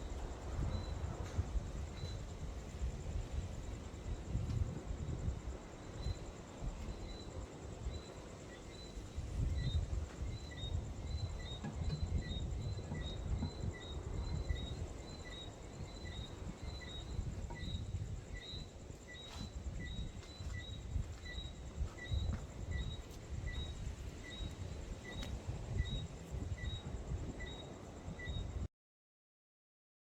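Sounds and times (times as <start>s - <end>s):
wind buffeting microphone: 0.0s - 8.1s, 8.8s - 28.7s
insects chirping: 0.0s - 28.7s.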